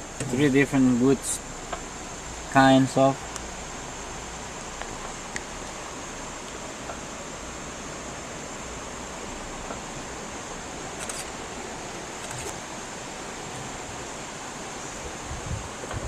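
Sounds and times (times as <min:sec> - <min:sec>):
rushing rainforest ambience: 0:00.0 - 0:16.0.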